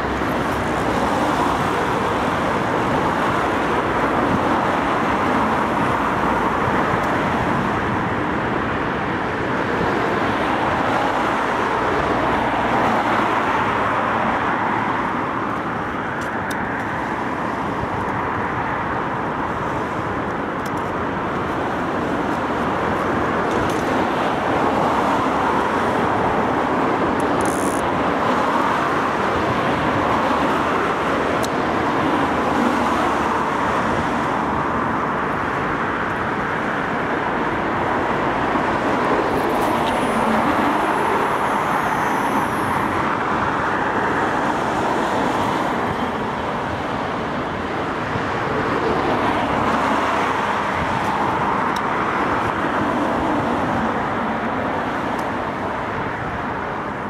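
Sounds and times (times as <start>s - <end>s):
cars passing with tyre noise: 0.0s - 57.0s.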